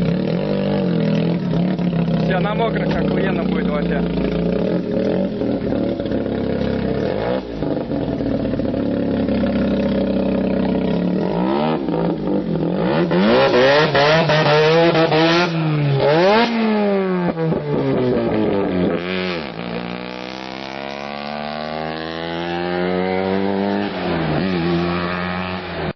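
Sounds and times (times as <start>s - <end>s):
rotary car engine revving: 0.0s - 25.9s.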